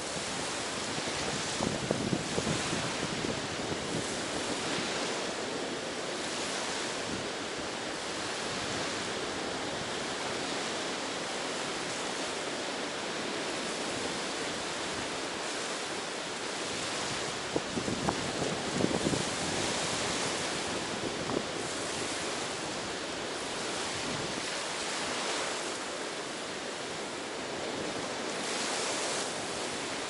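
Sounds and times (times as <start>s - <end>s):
wind on microphone: 0.0s - 25.9s
ocean surf washing onto shore: 0.0s - 30.0s.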